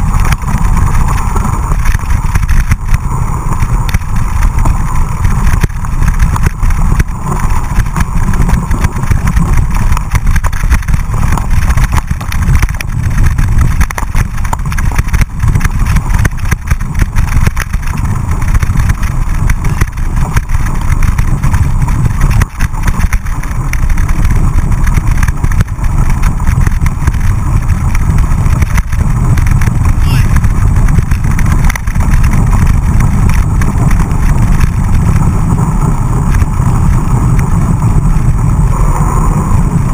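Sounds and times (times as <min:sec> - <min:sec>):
bike rattling over bumps: 0:00.0 - 0:39.9
wind and tyre rumble: 0:00.0 - 0:39.9.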